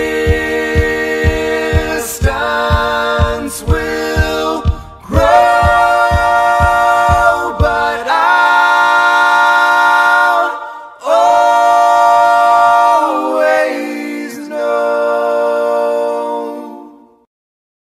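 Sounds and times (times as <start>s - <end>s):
voices singing a cappella harmony: 0.0s - 17.3s.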